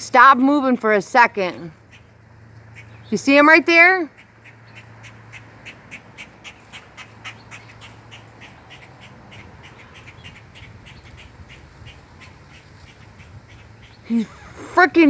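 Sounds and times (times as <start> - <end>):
birds giving sharp alarm calls: 1.4 - 15.0.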